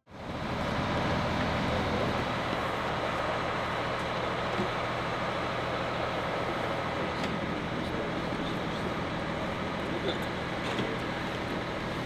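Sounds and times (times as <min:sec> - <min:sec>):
coach engine idling: 0:00.1 - 0:12.0.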